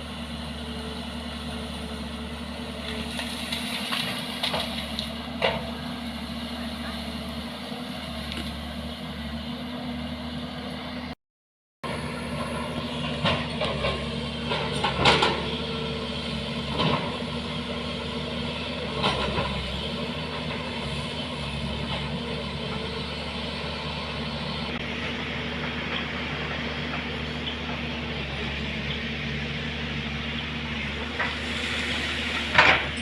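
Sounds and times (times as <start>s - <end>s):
heavy vehicle engine running: 0.0s - 11.2s, 11.8s - 33.0s.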